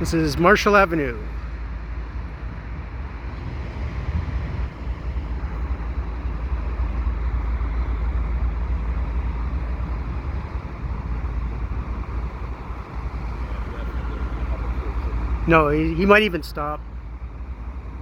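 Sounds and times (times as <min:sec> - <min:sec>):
freight train low rumble: 0:00.0 - 0:18.0.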